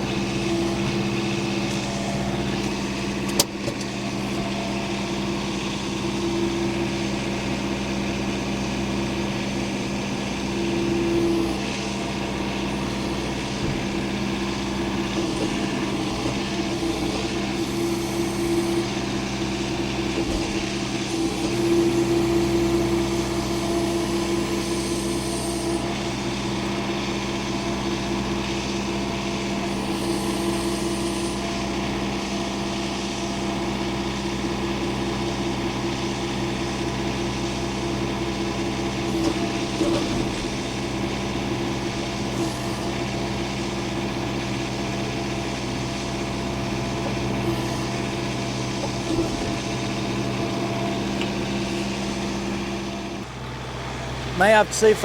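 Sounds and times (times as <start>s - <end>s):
engine running steadily: 0.0s - 55.0s.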